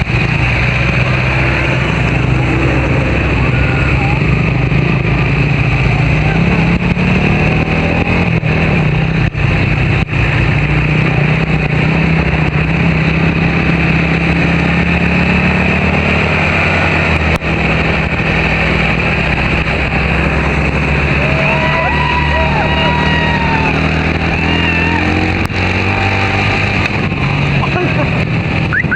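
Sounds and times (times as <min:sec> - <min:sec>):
car engine droning: 0:00.0 - 0:28.9
wind and road noise: 0:00.0 - 0:28.9.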